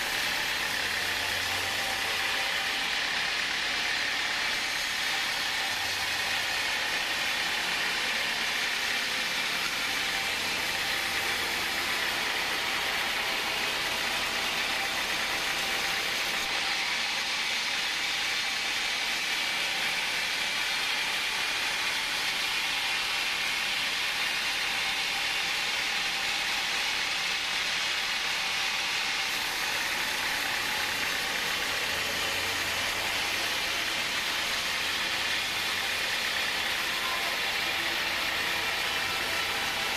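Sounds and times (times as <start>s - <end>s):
band saw cutting log: 0.0s - 39.9s
saw machinery running: 0.0s - 39.9s.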